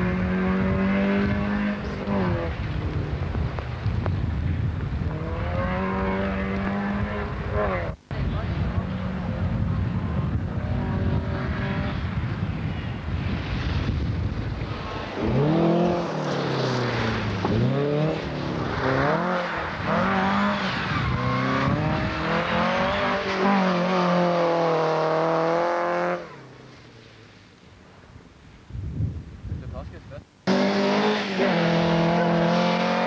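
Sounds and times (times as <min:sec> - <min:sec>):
rally car engine revving: 0:00.0 - 0:13.8, 0:14.6 - 0:26.6, 0:30.4 - 0:33.0.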